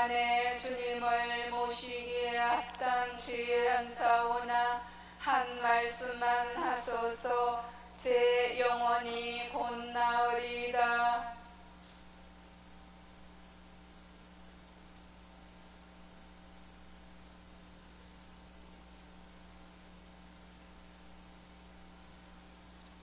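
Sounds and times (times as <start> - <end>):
electrical mains hum: 0.0 - 23.0
faint hiss: 0.0 - 23.0.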